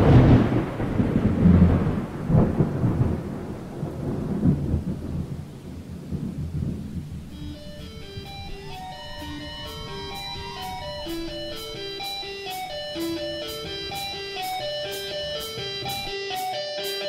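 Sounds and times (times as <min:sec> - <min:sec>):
faint rain-like hiss: 0:00.0 - 0:16.1
rolling thunder rumble: 0:00.0 - 0:16.1.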